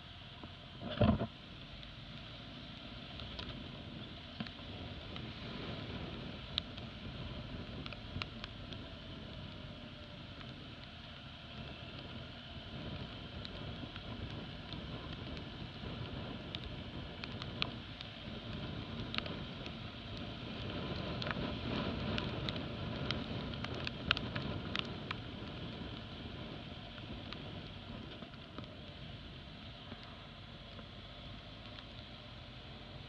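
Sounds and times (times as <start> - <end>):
motorcycle engine drone: 0.0 - 33.0
tyre hiss on wet road: 0.0 - 33.0
wind: 0.0 - 33.0.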